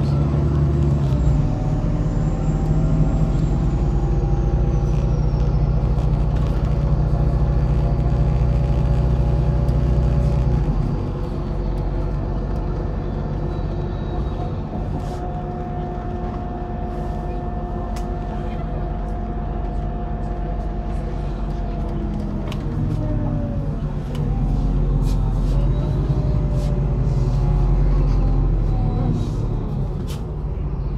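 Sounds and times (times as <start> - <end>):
bus diesel engine running: 0.0 - 30.9.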